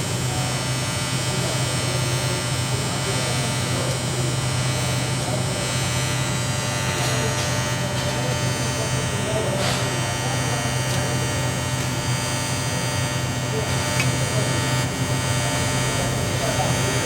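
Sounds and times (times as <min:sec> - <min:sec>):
arc welder humming and buzzing: 0:00.0 - 0:17.0.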